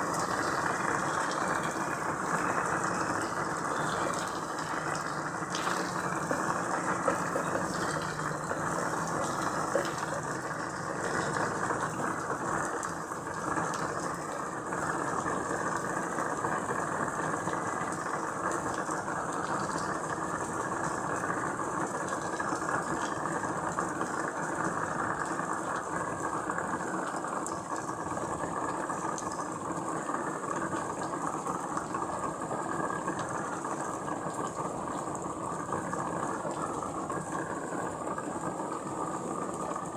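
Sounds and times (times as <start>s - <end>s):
raindrop ticks: 0.0s - 39.9s
steady rain hiss: 0.0s - 39.9s.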